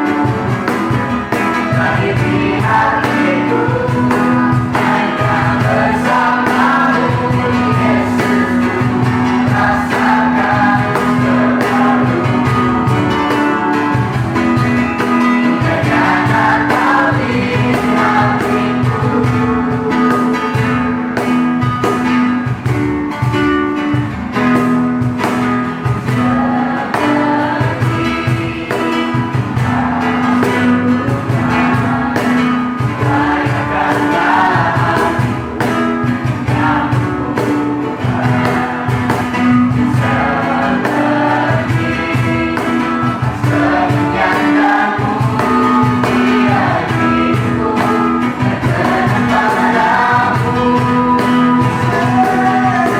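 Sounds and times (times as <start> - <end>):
band with guitar and beat: 0.0 - 52.9
group of voices singing: 0.0 - 52.9.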